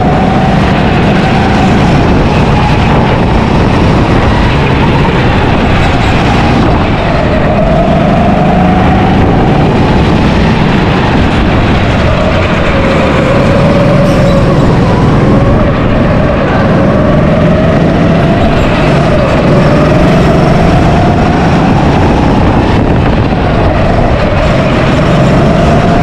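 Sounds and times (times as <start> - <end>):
go-kart motor running: 0.0 - 26.0.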